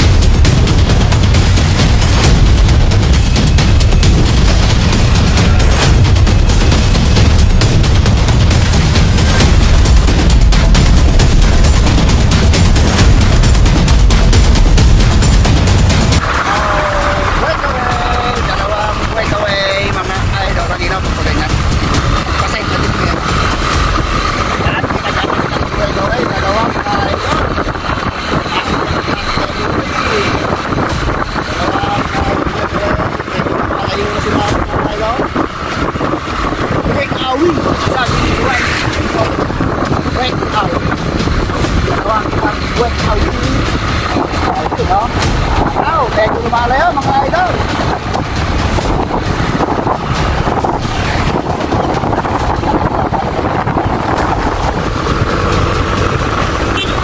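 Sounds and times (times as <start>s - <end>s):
motor vehicle running: 0.0s - 57.0s
wind buffeting microphone: 0.0s - 57.0s.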